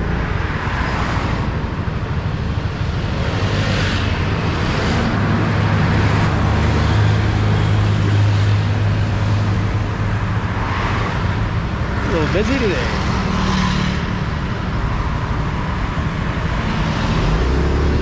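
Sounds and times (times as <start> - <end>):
cars and scooters passing: 0.0 - 18.0.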